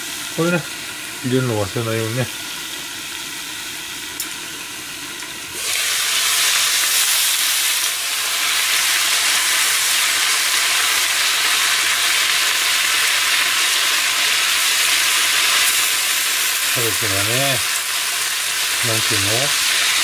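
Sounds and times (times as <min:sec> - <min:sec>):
cabbage sizzling in a frying pan: 0:00.0 - 0:20.0.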